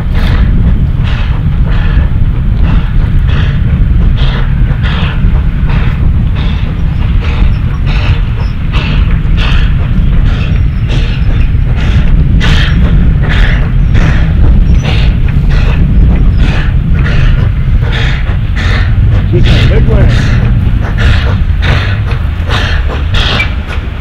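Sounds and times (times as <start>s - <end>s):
heavy low rumble: 0.0s - 24.0s
steam locomotive chuffing: 0.0s - 24.0s.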